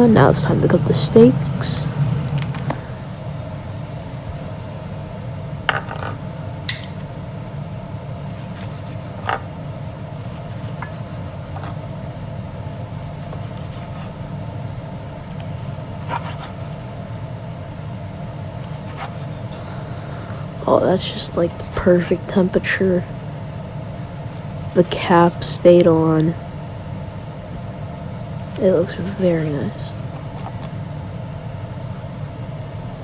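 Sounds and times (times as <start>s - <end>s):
kitchen background hum: 0.0s - 33.0s.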